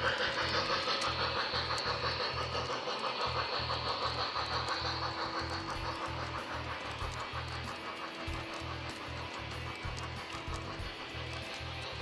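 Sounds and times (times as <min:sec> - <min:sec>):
background music: 0:00.0 - 0:12.0
model train steam chuffing: 0:00.0 - 0:12.0.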